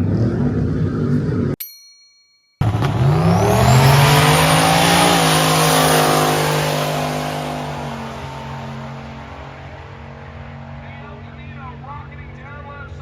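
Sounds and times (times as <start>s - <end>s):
drag car accelerating: 0.0s - 1.6s, 2.6s - 13.0s.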